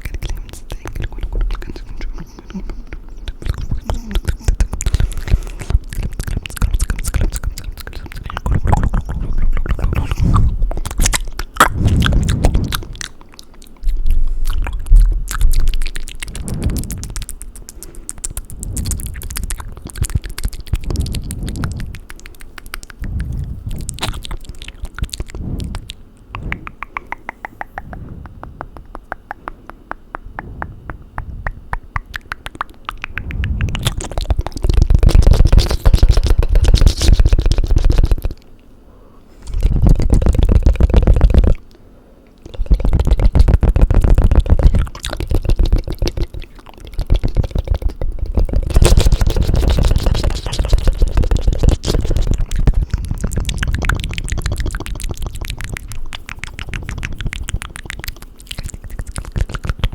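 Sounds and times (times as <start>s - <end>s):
tongue clicks: 0.0s - 38.5s, 39.4s - 59.9s
wet mouth sounds: 0.0s - 38.6s, 39.4s - 59.9s.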